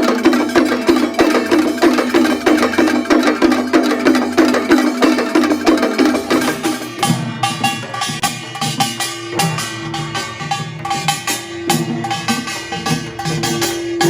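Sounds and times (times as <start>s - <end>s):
gongs and drums playing: 0.0s - 14.0s.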